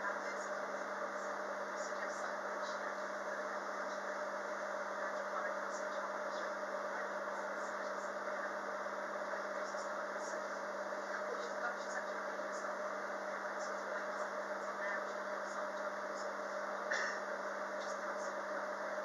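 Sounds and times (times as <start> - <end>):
train carriage interior hum: 0.0 - 19.0.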